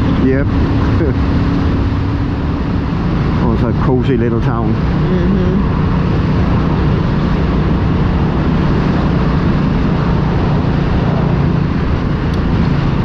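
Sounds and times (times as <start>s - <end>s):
motorcycle engine hum: 0.0s - 13.0s
road and wind noise: 0.0s - 13.0s.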